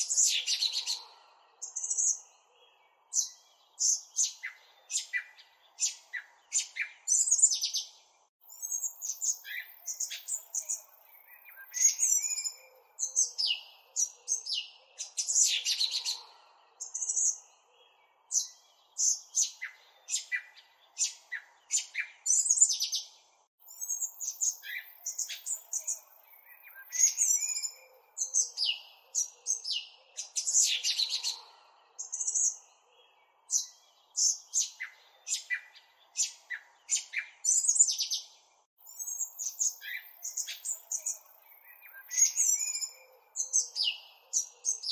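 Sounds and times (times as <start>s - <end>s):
small birds chirping and twittering: 0.0s - 44.9s.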